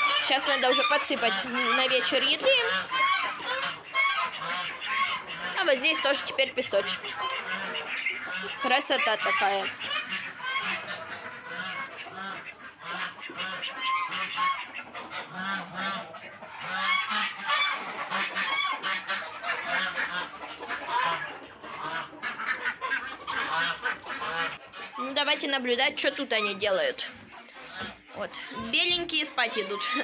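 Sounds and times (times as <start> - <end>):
geese honking: 0.0 - 30.0
poultry calling: 0.0 - 30.0.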